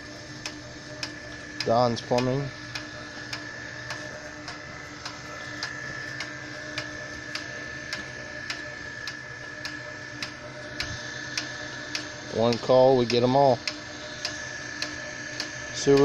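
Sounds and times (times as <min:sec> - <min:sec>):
drain cleaning machine running: 0:00.0 - 0:16.0
machine clicking as it turns: 0:00.4 - 0:16.0.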